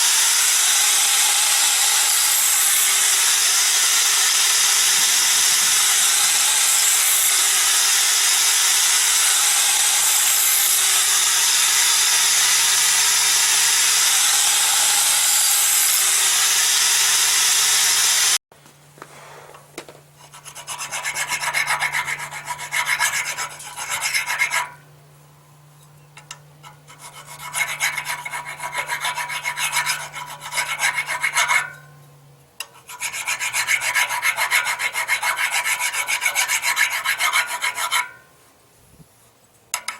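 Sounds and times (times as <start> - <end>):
hand file rasping on metal: 0.0 - 17.8, 20.2 - 24.8, 26.6 - 31.9, 32.6 - 38.3
power grinder grinding steel: 0.0 - 18.4, 20.2 - 24.8, 26.6 - 31.8, 32.7 - 38.2.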